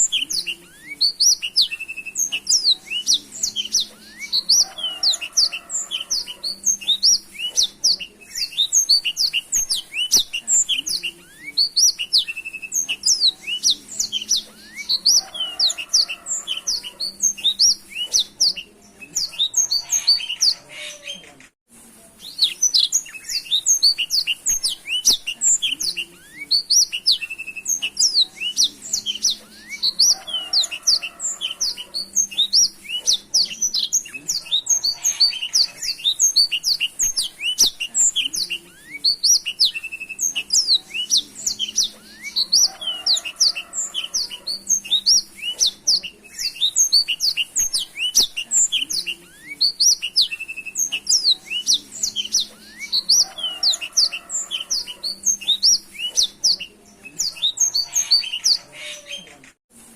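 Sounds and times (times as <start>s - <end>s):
canary singing rapid trills: 0.0s - 21.2s, 22.2s - 59.2s.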